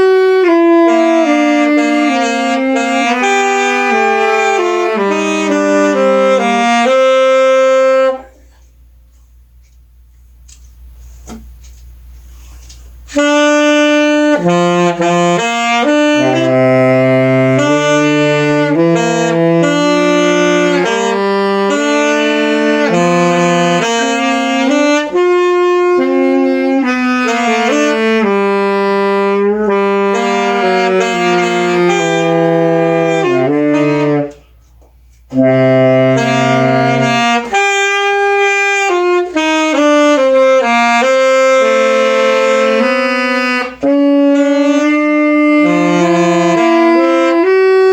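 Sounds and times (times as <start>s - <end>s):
saxophone slow melody: 0.0s - 8.7s, 12.3s - 47.9s.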